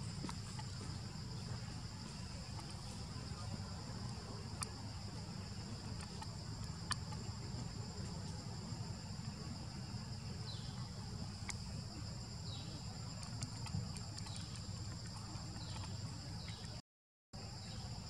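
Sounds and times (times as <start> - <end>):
insects chorus: 0.0 - 16.8, 17.4 - 18.0.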